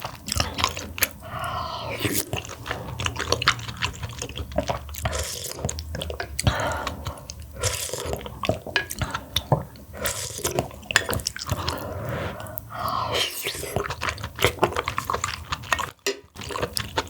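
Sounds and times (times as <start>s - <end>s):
person slurping and chewing: 0.0s - 17.0s.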